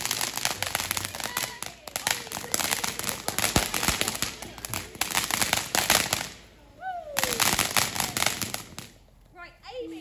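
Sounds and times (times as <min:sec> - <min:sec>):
firework fountain crackling: 0:00.0 - 0:10.0.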